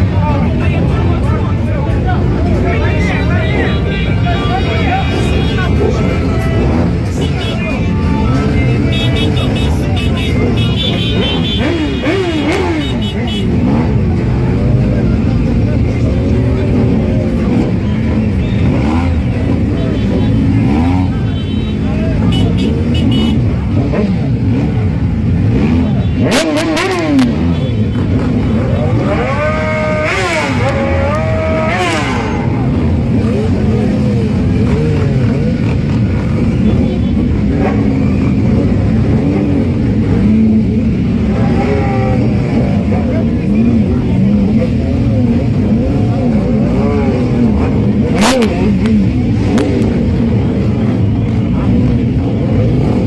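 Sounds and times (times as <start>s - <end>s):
motorcycle and car engines revving: 0.0s - 53.0s.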